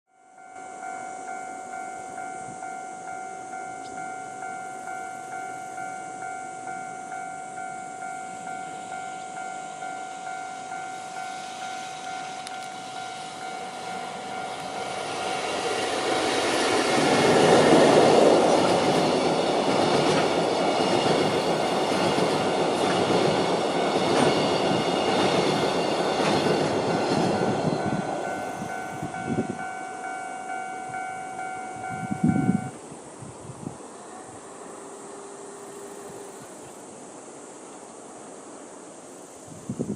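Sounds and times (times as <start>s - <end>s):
level-crossing warning bell: 0.1s - 32.8s
electric locomotive passing: 0.2s - 39.9s.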